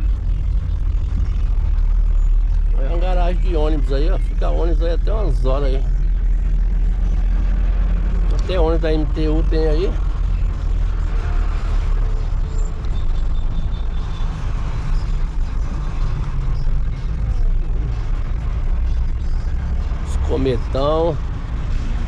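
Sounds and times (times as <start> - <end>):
van engine drone and road noise: 0.0 - 22.0.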